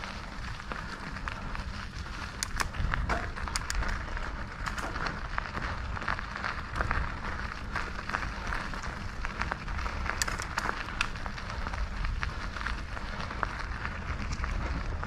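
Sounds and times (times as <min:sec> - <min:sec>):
bike clicks and rattles: 0:00.0 - 0:15.0
bike tyres crunching on dirt: 0:00.0 - 0:15.0
low wind rumble on microphone: 0:00.0 - 0:15.0.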